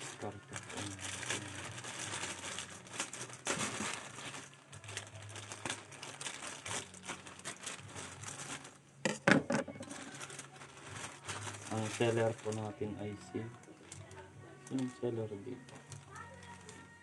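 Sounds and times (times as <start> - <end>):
plastic packaging crinkling: 0.0 - 8.8, 9.7 - 17.0
sharp plastic crackle: 0.0 - 8.8, 9.8 - 17.0.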